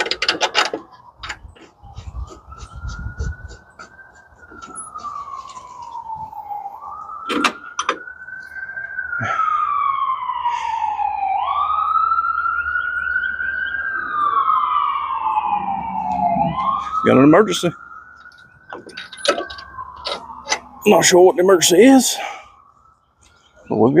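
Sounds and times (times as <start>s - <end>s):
emergency siren wailing: 0.0s - 24.0s.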